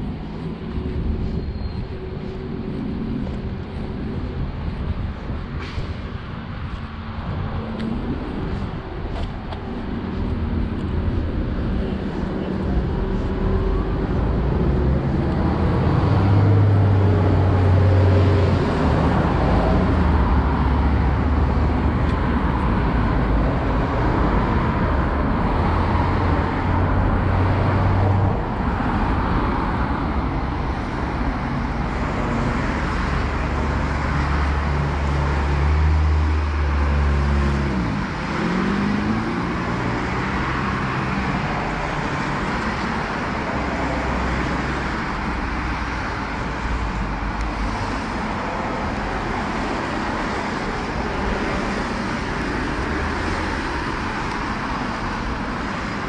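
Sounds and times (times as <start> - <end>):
car engines humming: 0.0 - 56.0.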